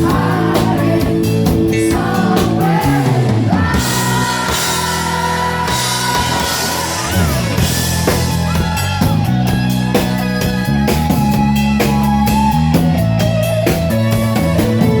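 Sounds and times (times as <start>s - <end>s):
bass guitar: 0.0s - 15.0s
drum kit: 0.0s - 15.0s
electric guitar lead: 0.0s - 15.0s.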